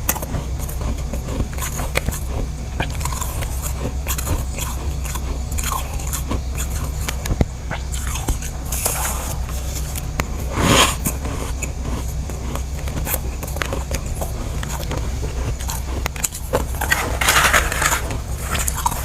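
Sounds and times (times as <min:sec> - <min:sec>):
frost crunching when chewed: 0:00.0 - 0:19.0
low hum: 0:00.0 - 0:19.0.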